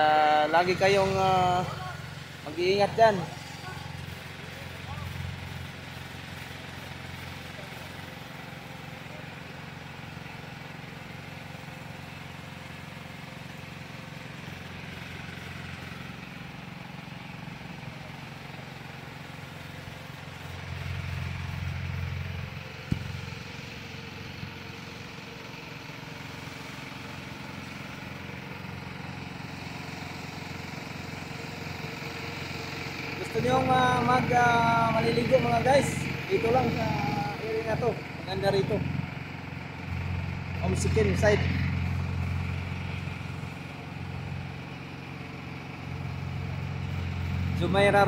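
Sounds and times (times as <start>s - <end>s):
tractor engine running: 0.0s - 48.0s.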